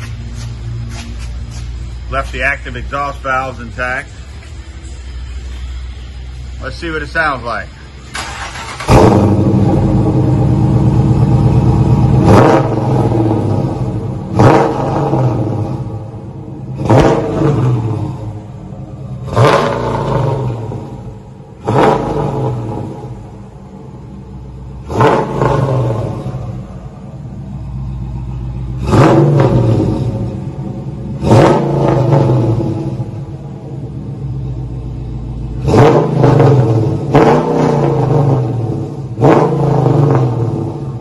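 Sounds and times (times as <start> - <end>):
car engine idling: 0.0 - 41.0
car engine revving: 0.0 - 41.0.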